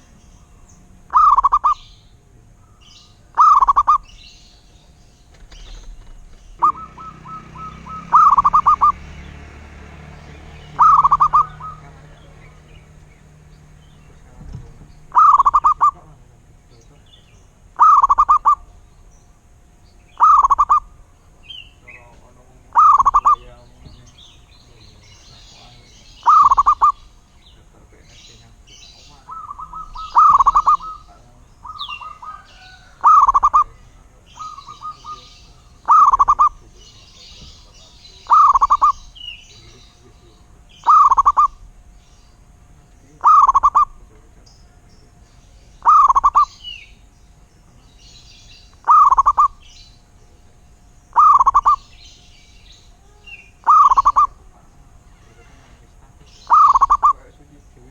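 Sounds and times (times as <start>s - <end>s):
dove cooing: 0.0s - 57.9s
small birds chirping: 0.0s - 57.9s.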